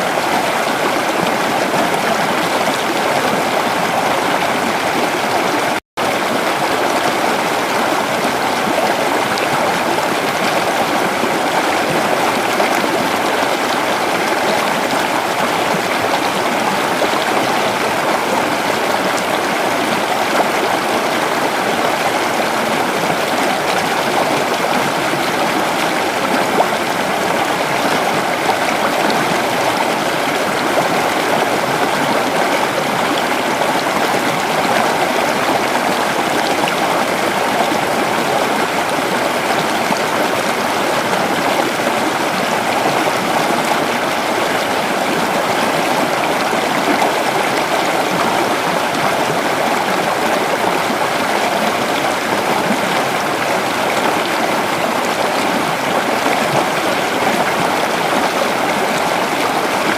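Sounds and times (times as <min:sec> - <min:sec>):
creek water flowing over stones: 0:00.0 - 0:59.9.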